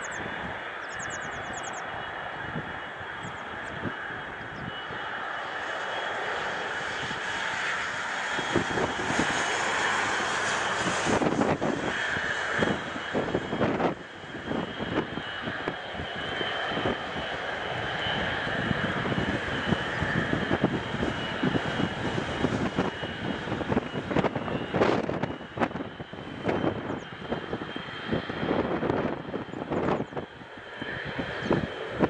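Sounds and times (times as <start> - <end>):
jet engines whining: 0.0 - 32.0
low rumbling surges: 2.0 - 32.0.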